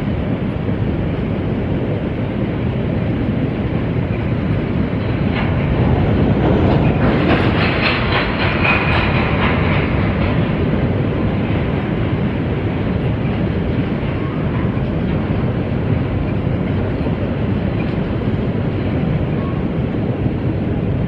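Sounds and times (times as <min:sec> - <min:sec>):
freight train rumble: 0:00.0 - 0:21.0
wheels clickety-clack: 0:03.8 - 0:21.0.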